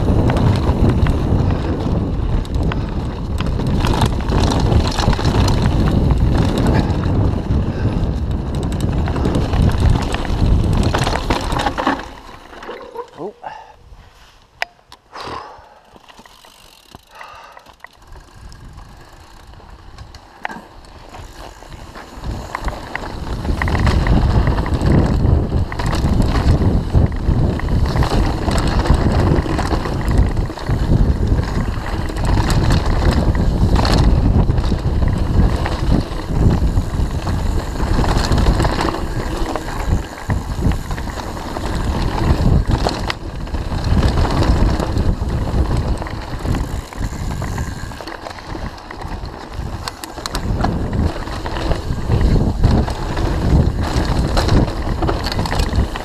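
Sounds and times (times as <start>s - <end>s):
tyre rumble over dirt and stones: 0.0s - 13.3s, 15.9s - 56.0s
bike rattling: 0.0s - 13.7s, 14.5s - 56.0s
wind buffeting microphone: 0.0s - 14.1s, 18.0s - 56.0s.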